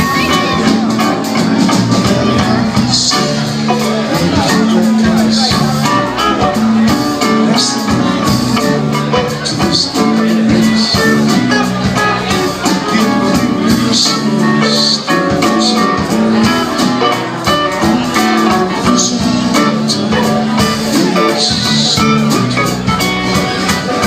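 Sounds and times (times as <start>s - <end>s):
bass notes: 0.0s - 24.0s
drum and cymbal hits: 0.0s - 24.0s
guitar: 0.0s - 24.0s
live band playing: 0.0s - 24.0s.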